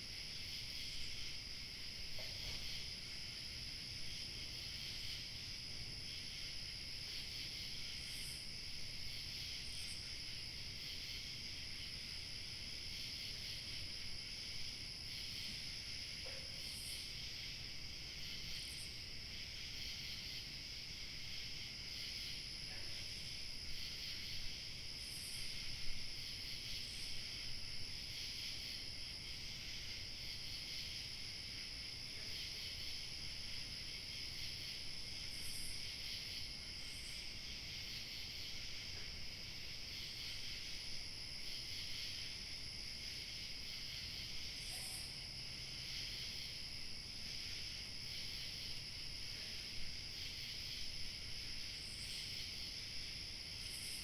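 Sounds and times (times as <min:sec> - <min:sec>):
crickets chirping: 0:00.0 - 0:54.0
high insect trill: 0:00.1 - 0:54.0.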